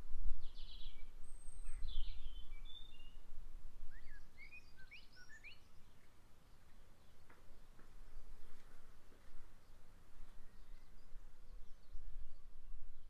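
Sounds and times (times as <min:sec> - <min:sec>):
small birds chirping: 0:00.4 - 0:03.3, 0:03.9 - 0:13.0.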